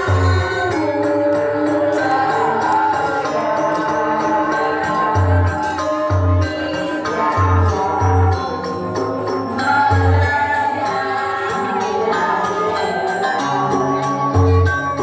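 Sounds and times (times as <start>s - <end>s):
group singing: 0.0s - 15.0s
metallophone notes: 0.0s - 15.0s.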